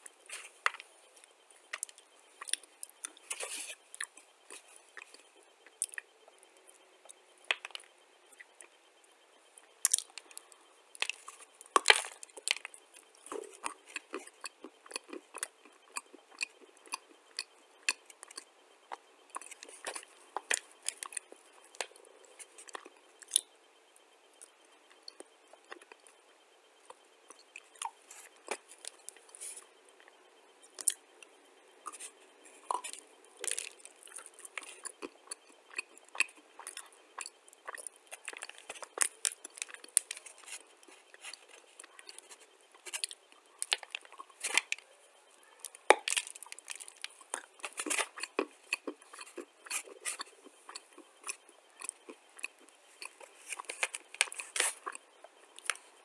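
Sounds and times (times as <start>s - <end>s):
dry clay being chewed: 0.0s - 56.0s.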